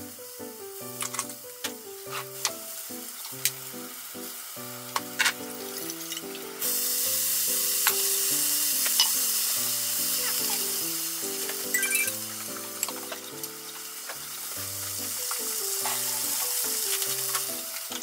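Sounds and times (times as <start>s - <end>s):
sauce sizzling in frying pan: 0.0s - 18.0s.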